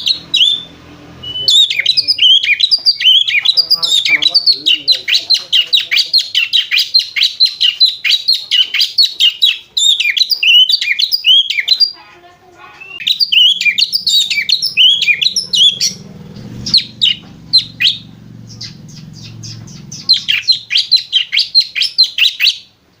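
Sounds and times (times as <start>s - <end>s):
bird chirping rapidly: 0.0s - 12.0s, 12.8s - 22.8s.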